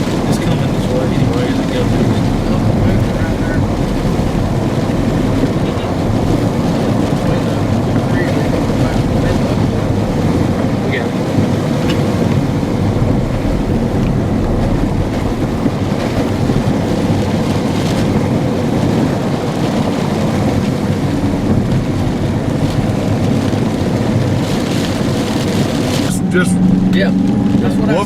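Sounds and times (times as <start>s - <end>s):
rain: 0.0s - 28.0s
strong wind: 0.0s - 28.0s
wind buffeting the microphone: 0.0s - 28.0s.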